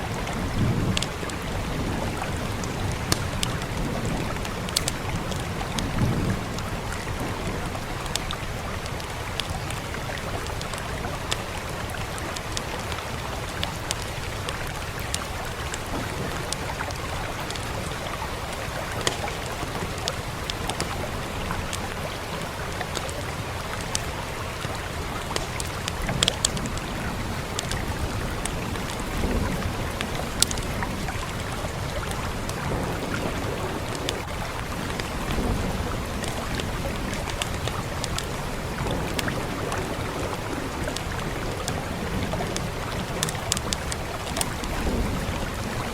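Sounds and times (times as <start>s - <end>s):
steady rain: 0.0s - 45.9s
wood fire crackling: 0.1s - 45.9s.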